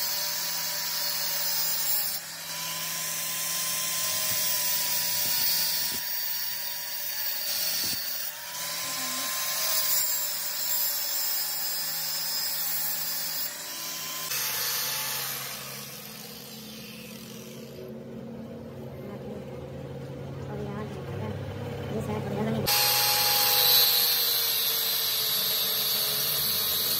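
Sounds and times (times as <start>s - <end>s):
angle grinder cutting metal: 0.0s - 18.0s, 22.4s - 26.9s.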